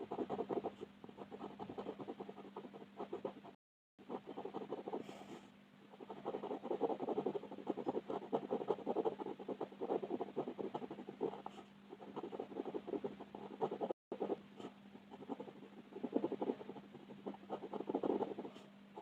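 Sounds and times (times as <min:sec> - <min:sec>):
faint steady hum: 0:00.0 - 0:19.0
pencil scratching on paper: 0:00.0 - 0:19.0.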